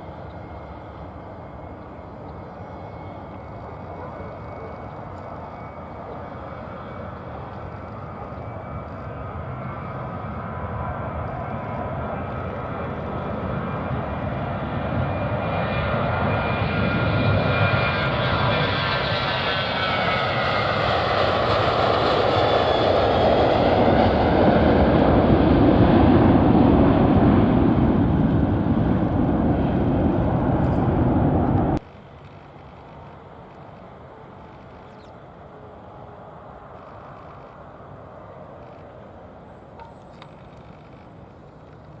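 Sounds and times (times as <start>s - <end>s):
airliner engines passing: 0.0s - 42.0s.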